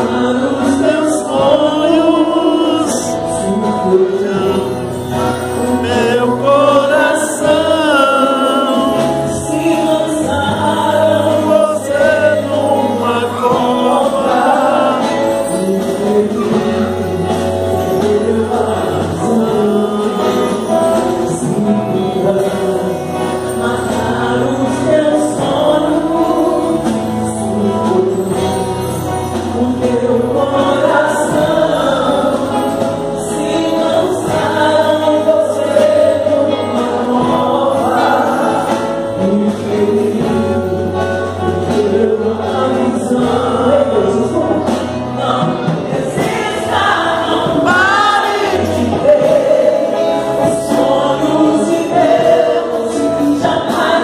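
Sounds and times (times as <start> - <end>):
backing singers: 0.0 - 54.0
congas: 0.0 - 54.0
drum kit steady beat: 0.0 - 54.0
electric guitar: 0.0 - 54.0
woman singing lead: 0.0 - 54.0.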